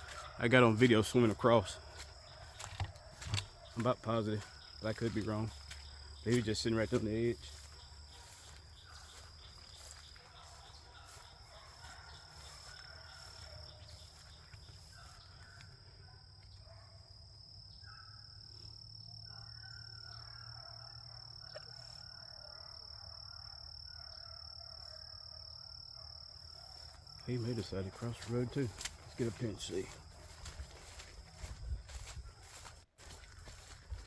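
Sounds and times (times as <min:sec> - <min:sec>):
distant dogs baying: 0:00.0 - 0:17.1, 0:17.8 - 0:34.0
insects droning: 0:00.0 - 0:34.0.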